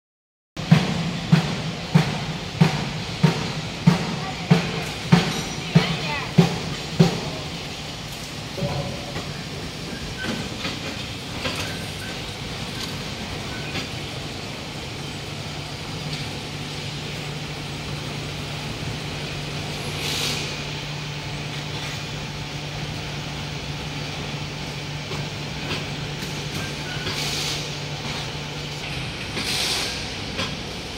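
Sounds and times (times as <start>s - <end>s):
factory machinery noise: 0.6s - 30.9s.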